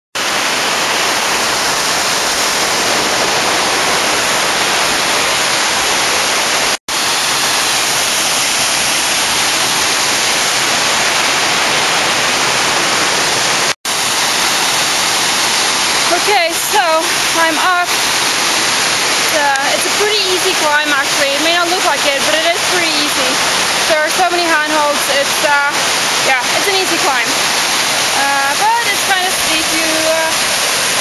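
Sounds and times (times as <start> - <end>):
waterfall rushing: 0.2 - 31.0.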